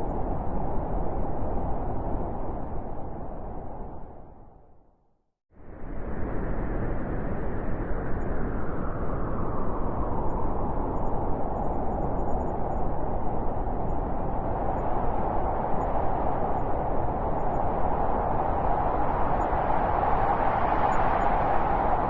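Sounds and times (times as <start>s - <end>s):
blizzard wind blowing: 0.0s - 4.9s, 5.6s - 22.0s.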